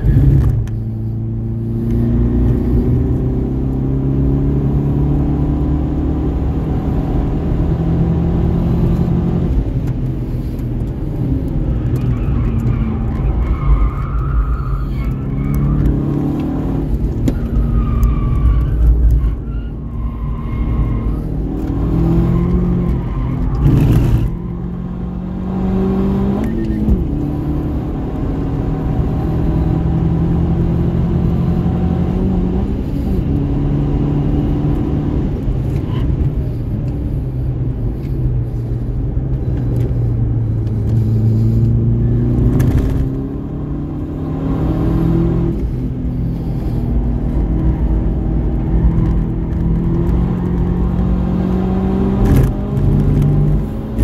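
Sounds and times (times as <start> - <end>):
car engine accelerating and slowing: 0.0 - 54.0.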